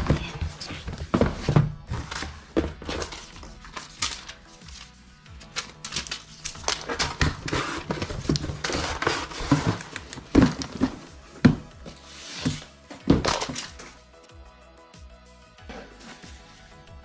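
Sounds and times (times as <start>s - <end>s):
packaging rustling and knocking: 0.0s - 14.0s.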